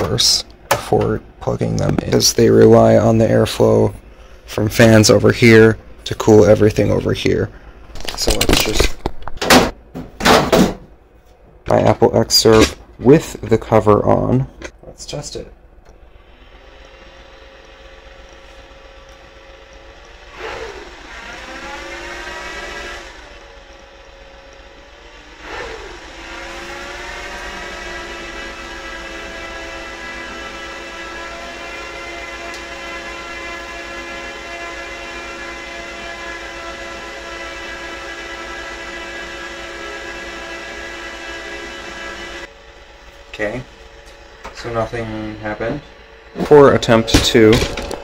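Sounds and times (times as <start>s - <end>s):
server cooling fans spinning up: 0.0s - 48.0s.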